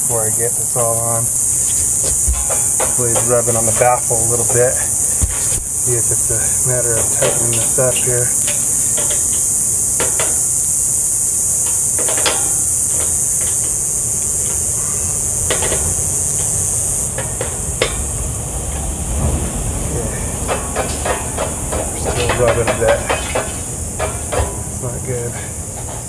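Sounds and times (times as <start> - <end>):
loud steady high hiss: 0.0 - 26.0.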